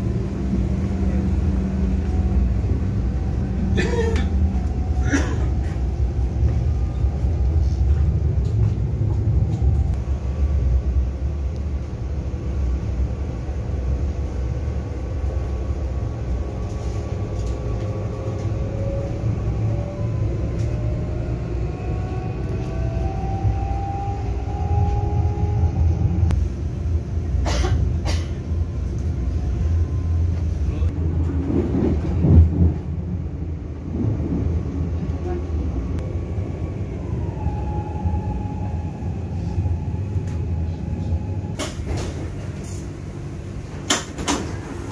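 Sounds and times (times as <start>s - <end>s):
electric train rumble: 0.0s - 44.9s.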